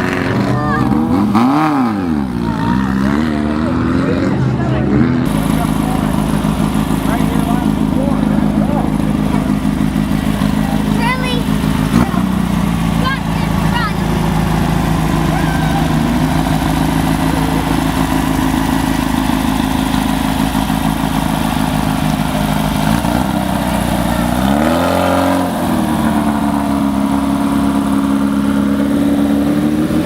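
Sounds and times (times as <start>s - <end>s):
race car engine idling and revving: 0.0s - 30.0s.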